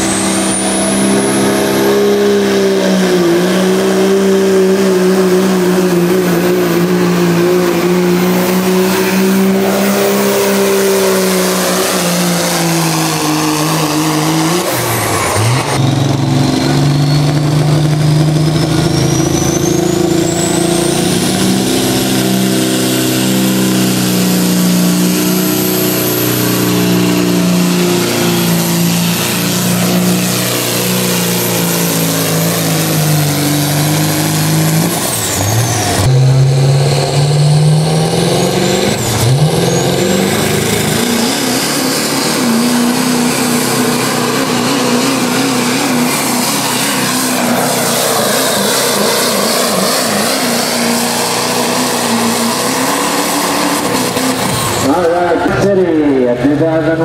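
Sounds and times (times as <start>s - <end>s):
diesel engines at full throttle: 0.0s - 57.0s
turbo whine: 0.0s - 57.0s.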